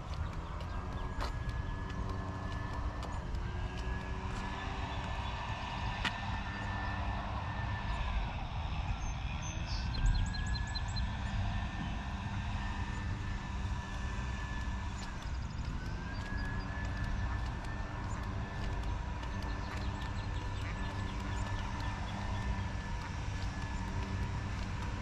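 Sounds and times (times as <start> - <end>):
distant siren wailing: 0.0 - 25.0
road traffic rumble: 0.0 - 25.0.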